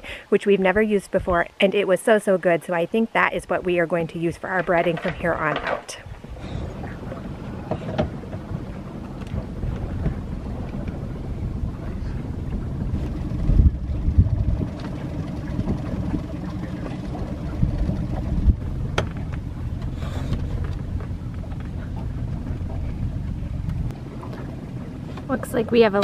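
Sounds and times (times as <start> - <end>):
wind buffeting microphone: 3.3 - 26.0
outboard motor hum: 4.5 - 26.0.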